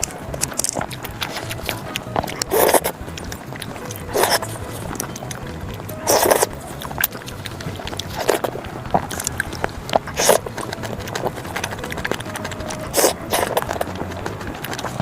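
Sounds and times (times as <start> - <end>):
wet chewing clicks: 0.0 - 15.0.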